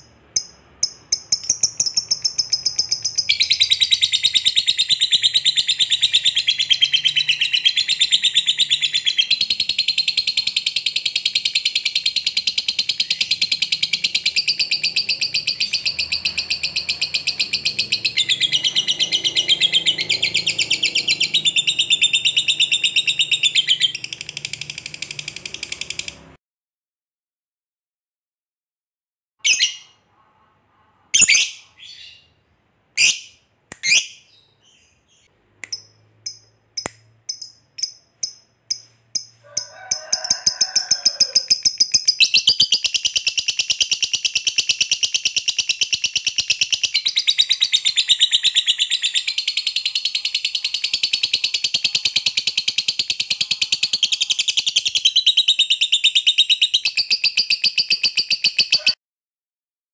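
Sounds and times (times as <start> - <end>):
lovebird chirping and trilling: 0.1 - 26.3, 29.4 - 30.1, 31.2 - 32.4, 33.0 - 59.0.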